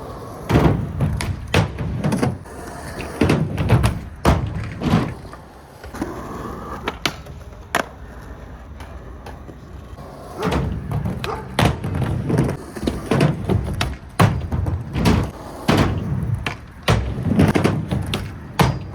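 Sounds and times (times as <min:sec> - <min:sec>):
skateboard clacking on ground: 0:00.0 - 0:18.9
skateboard wheels rolling on concrete: 0:00.0 - 0:18.9.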